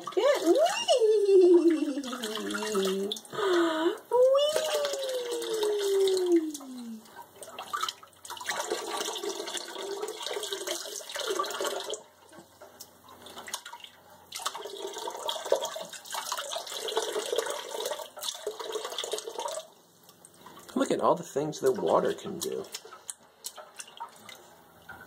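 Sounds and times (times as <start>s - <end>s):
water splashing into bathwater: 0.0s - 25.0s.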